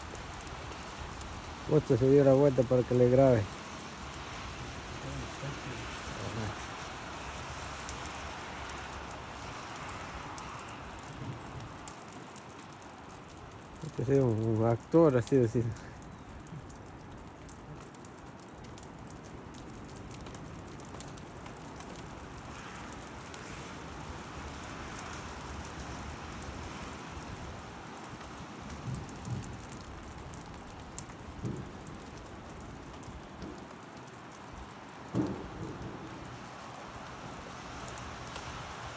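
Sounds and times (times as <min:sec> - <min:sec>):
light drizzle pattering: 0:00.0 - 0:38.9.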